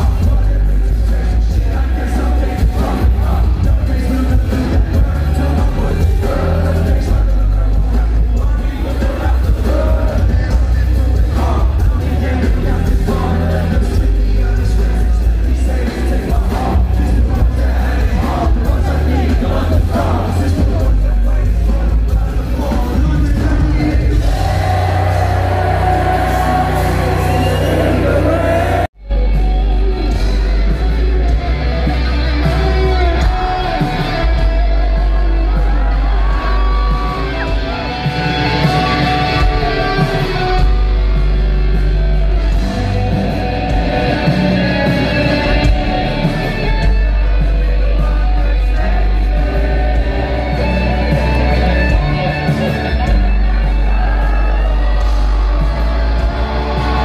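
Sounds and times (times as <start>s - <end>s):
amplified singing: 0.0s - 57.0s
live rock concert music: 0.0s - 57.0s.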